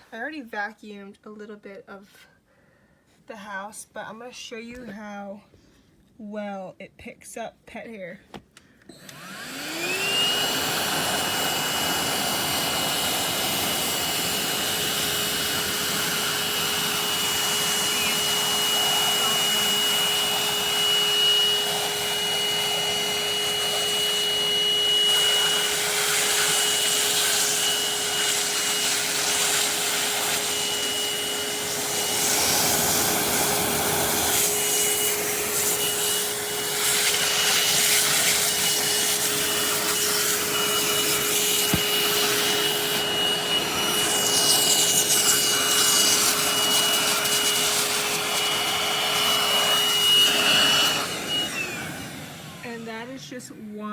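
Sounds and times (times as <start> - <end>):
hand vacuum motor whining: 8.9 - 53.6
vacuum suction rushing: 9.0 - 53.1.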